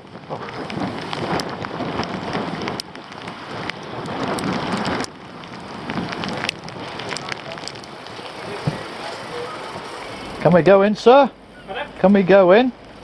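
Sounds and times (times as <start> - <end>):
wind noise on microphone: 0.0 - 10.7
rain: 0.0 - 13.0
raindrops ticking on microphone: 0.0 - 13.0.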